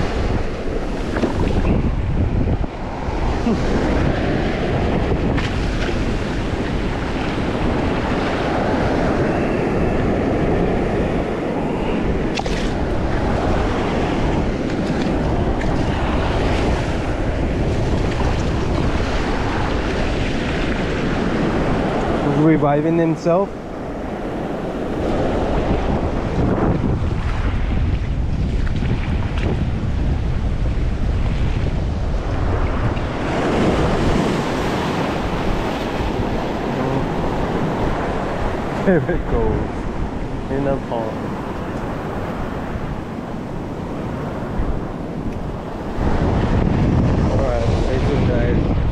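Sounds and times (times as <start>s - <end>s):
surf washing over reef: 0.0s - 48.9s
wind buffeting microphone: 0.0s - 48.9s.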